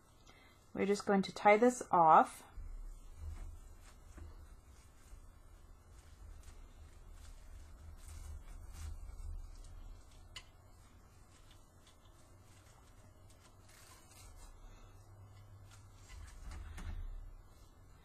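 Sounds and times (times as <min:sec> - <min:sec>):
ribbon rustling and crinkling: 0:02.5 - 0:17.7.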